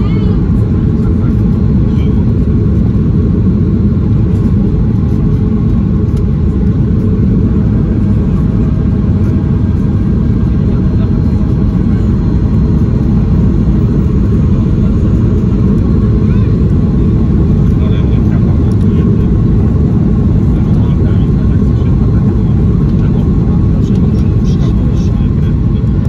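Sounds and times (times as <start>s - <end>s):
air rushing along fuselage: 0.0s - 26.0s
airplane cabin jet engine rumble: 0.0s - 26.0s.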